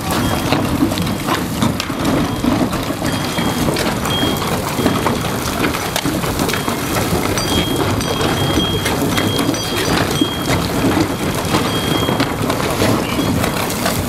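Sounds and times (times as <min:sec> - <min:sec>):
tunnel boring machine rumbling: 0:00.0 - 0:14.0
rock crackling: 0:00.2 - 0:14.0.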